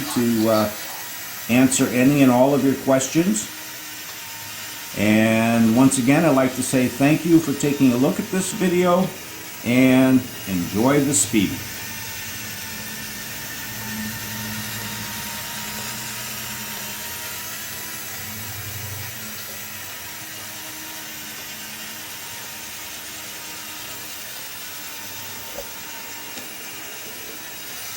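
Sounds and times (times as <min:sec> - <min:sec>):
toy monorail motor whirring: 0:00.0 - 0:27.9.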